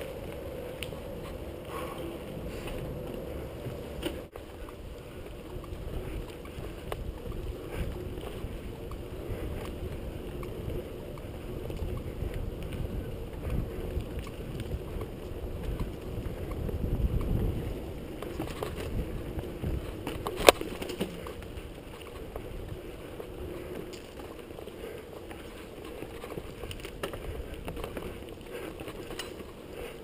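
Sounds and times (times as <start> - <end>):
bike tyre rumble on dirt trail: 0.0 - 30.0
wind buffeting microphone: 0.0 - 30.0.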